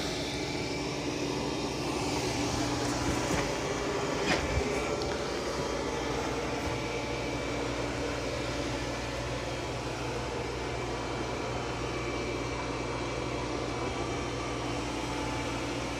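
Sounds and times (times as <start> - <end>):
robot vacuum running: 0.0 - 15.9.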